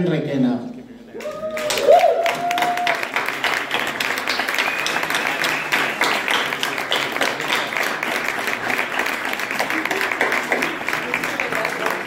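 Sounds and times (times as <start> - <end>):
audience applauding: 1.2 - 12.0.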